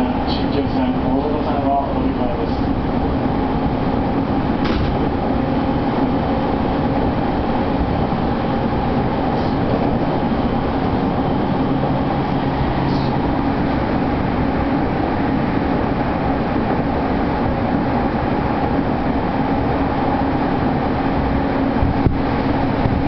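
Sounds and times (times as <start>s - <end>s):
low hum: 0.0s - 23.0s
train wheels rumbling on rail: 0.0s - 23.0s.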